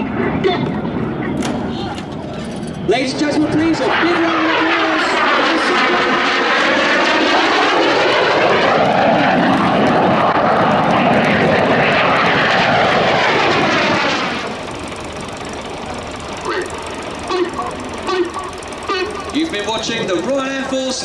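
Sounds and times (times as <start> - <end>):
jet flying past: 0.0 - 21.0.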